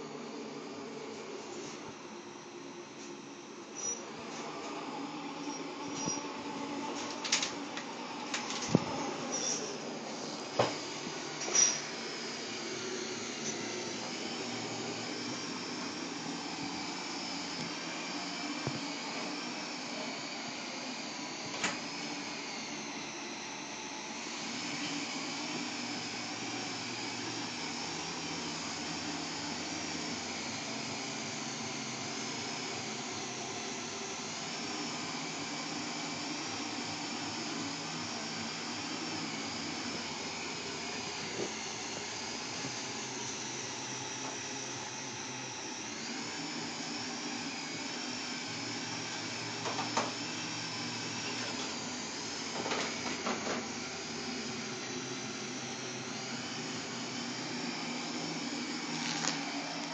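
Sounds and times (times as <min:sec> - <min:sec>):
robot motor whirring and whining: 0:05.4 - 0:07.5, 0:08.3 - 0:59.9.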